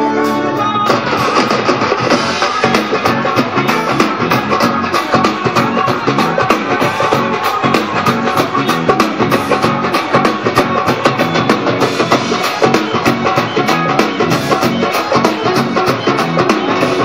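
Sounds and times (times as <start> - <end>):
drums played with sticks: 0.0 - 17.0.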